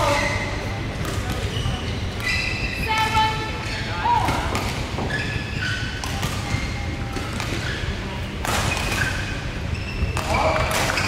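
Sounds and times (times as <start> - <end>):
shoes squeaking on court: 0.0 - 11.0.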